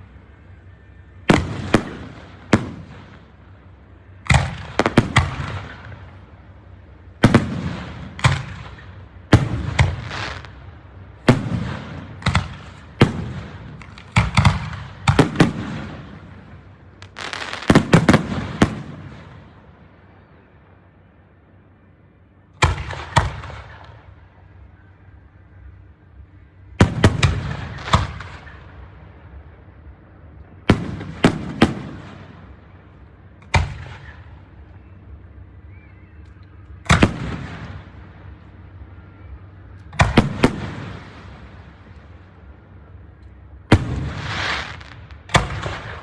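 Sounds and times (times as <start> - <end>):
fireworks bursting: 0.0 - 19.7, 22.6 - 24.6, 26.4 - 35.7, 36.6 - 46.0.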